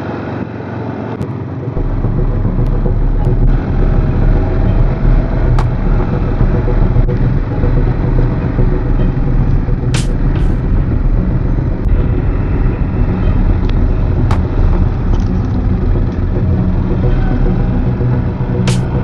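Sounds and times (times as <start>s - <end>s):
atv engine running: 1.4s - 19.0s.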